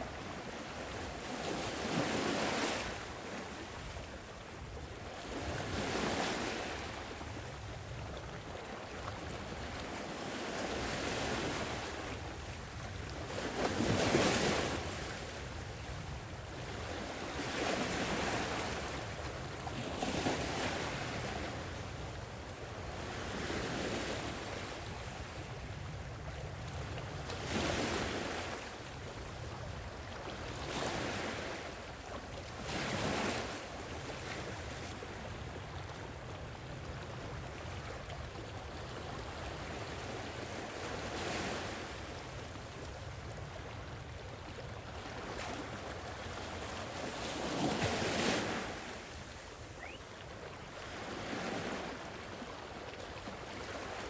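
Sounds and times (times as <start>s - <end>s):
low rumble of sea: 0.0s - 54.0s.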